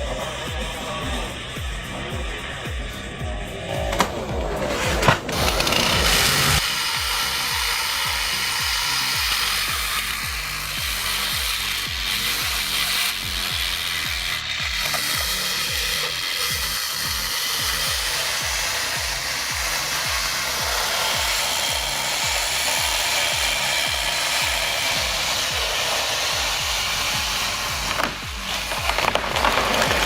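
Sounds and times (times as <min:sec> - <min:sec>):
chainsaw cutting wood: 0:00.0 - 0:30.0
low rhythmic pulse: 0:00.0 - 0:30.0.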